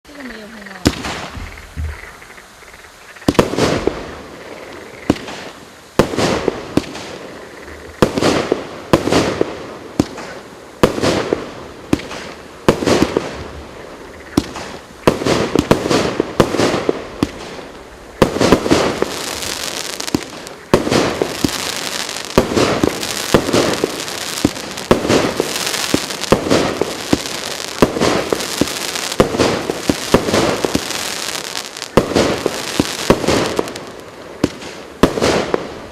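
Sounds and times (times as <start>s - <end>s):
continuous fireworks hiss: 0.0s - 35.9s
fireworks launch and burst bangs: 0.8s - 2.0s, 3.3s - 4.3s, 5.0s - 7.2s, 8.0s - 13.6s, 14.4s - 35.9s.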